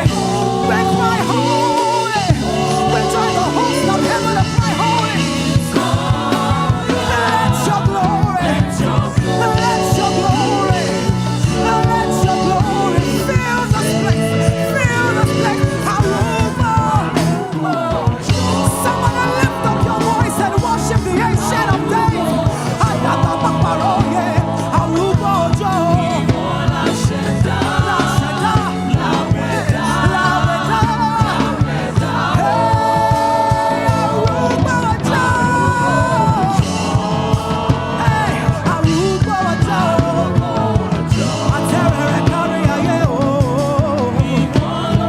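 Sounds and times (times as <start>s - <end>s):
band playing steady beat: 0.0s - 45.0s
choir singing: 0.0s - 45.0s.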